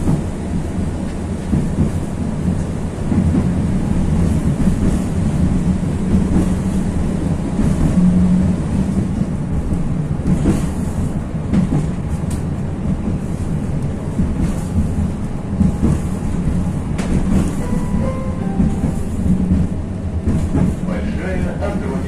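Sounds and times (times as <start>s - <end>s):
tram wheels rumbling: 0.0s - 22.0s.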